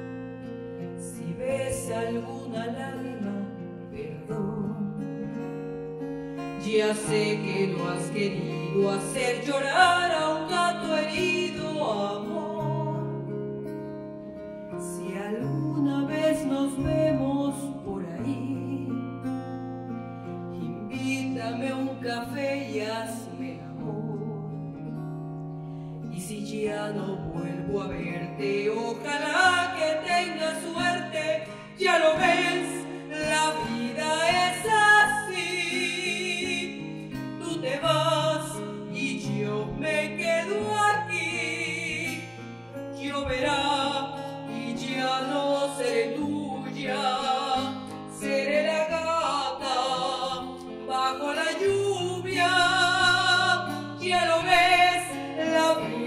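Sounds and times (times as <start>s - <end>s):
woman singing a ballad: 0.0s - 25.3s, 26.0s - 56.0s
acoustic guitar: 0.0s - 56.0s.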